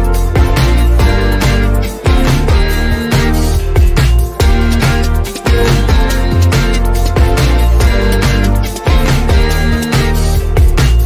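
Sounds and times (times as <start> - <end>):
background music with beat and bass: 0.0 - 11.0.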